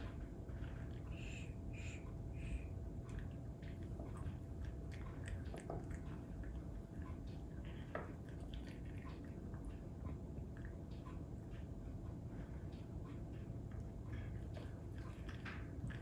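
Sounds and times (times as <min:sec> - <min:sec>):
cat chewing wet food: 0:00.0 - 0:16.0
low background hum: 0:00.0 - 0:16.0.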